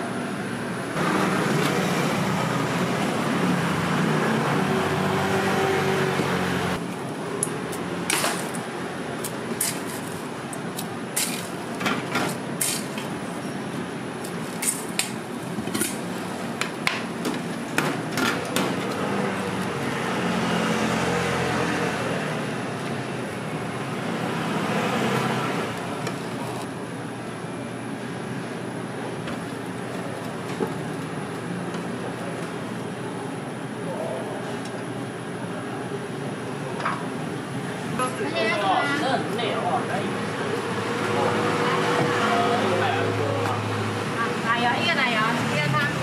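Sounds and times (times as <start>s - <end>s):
street traffic noise: 0.0s - 46.0s.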